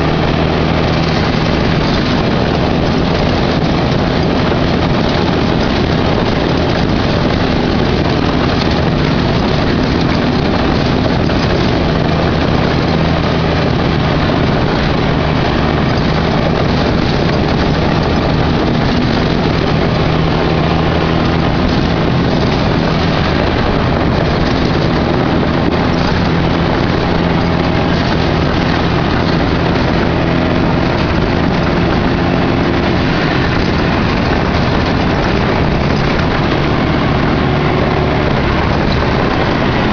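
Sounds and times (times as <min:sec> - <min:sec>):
buggy engine running: 0:00.0 - 0:39.9
wind and road noise: 0:00.0 - 0:39.9.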